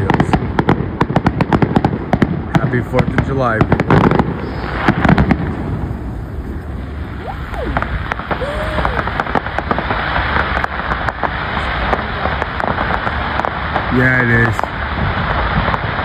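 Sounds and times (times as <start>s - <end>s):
fireworks crackling: 0.0s - 16.0s
sharp firework pops: 0.0s - 16.0s.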